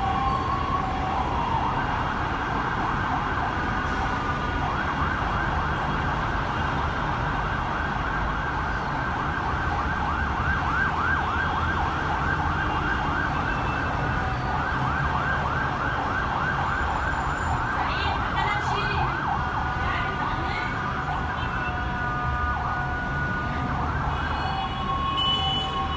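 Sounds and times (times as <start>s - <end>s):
ambulance siren yelping: 0.0s - 25.9s
road traffic rumble: 0.0s - 25.9s.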